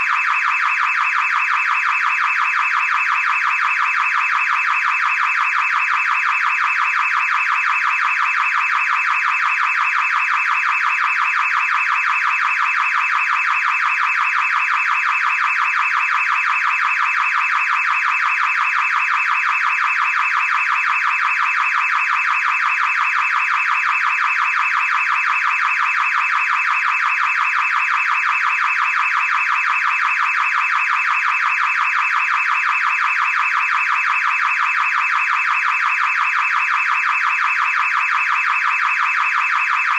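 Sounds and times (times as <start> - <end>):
car alarm pulsing tone: 0.0 - 39.9.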